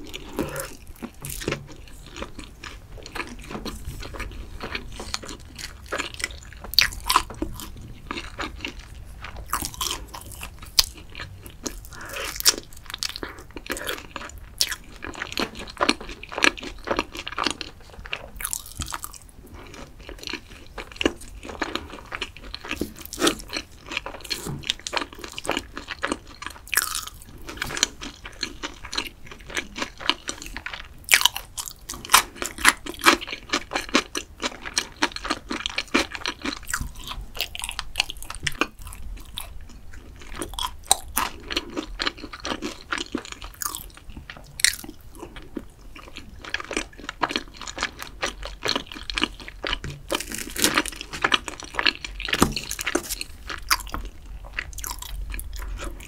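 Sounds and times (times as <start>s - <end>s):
crisp crunching and chewing: 0.0s - 56.0s.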